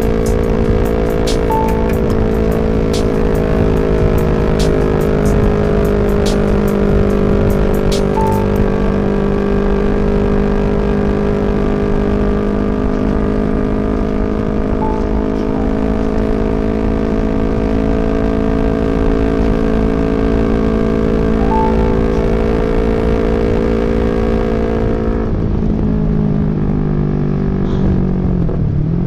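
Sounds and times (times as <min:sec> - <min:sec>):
motorcycle engine cruising: 0:00.0 - 0:29.0
road and wind noise: 0:00.0 - 0:29.0.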